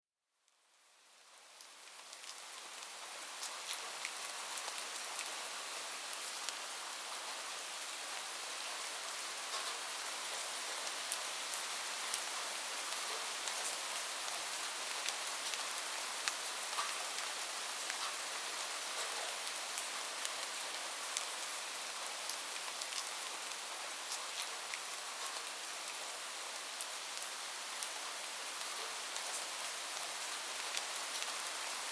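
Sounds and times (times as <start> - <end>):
light rain falling: 0.4 - 31.9
raindrops ticking on a surface: 0.5 - 31.9.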